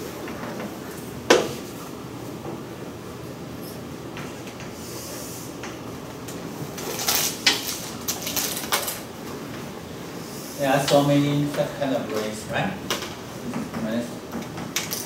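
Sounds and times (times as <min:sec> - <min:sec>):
room noise: 0:00.0 - 0:15.0.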